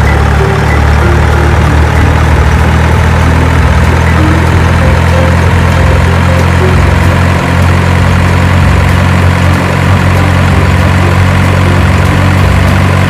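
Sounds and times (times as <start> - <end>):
heavy engine idling: 0.0 - 13.0.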